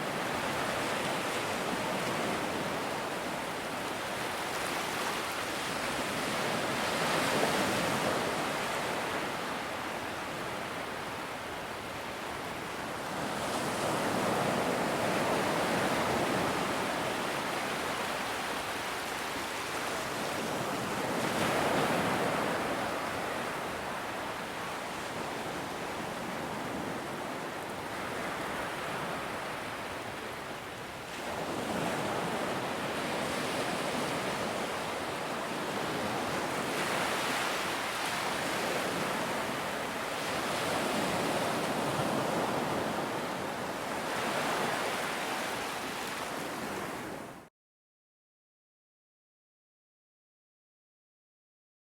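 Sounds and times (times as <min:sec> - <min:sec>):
ocean waves breaking on beach: 0:00.0 - 0:47.5.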